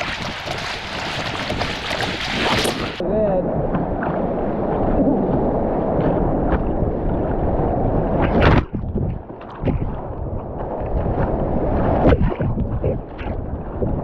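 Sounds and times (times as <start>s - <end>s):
wave splashing over kayak: 0.0s - 14.0s.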